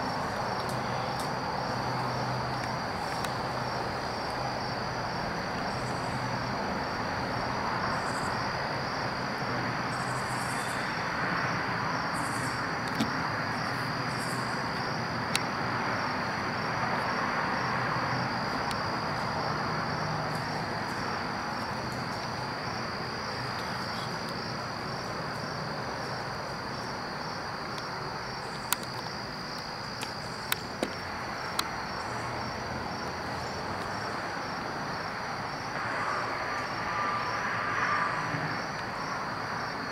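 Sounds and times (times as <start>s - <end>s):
constant hiss: 0.0s - 39.9s
crickets chirping: 0.0s - 39.9s.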